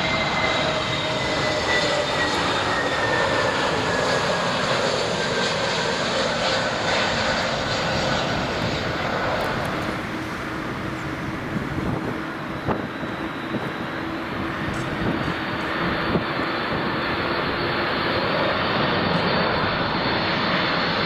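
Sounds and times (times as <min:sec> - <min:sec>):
falling jet engine whine: 0:00.0 - 0:21.0
jet airliner engines: 0:00.0 - 0:21.0.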